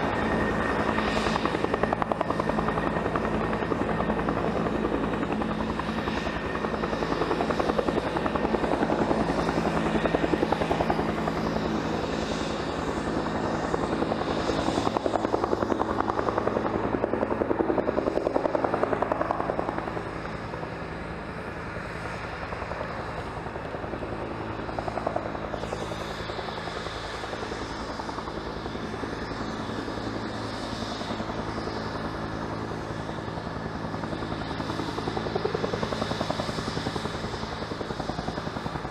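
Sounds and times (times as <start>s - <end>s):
helicopter rotor beating: 0.0s - 38.9s
steady turbine tone: 0.0s - 38.9s.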